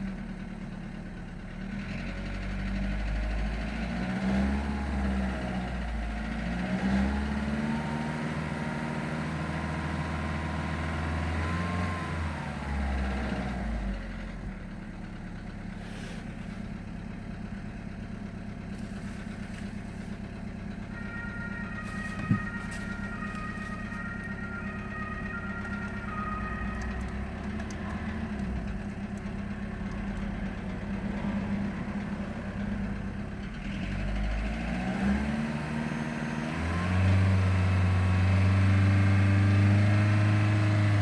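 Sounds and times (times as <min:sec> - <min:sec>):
car engine revving and idling: 0:00.0 - 0:41.0.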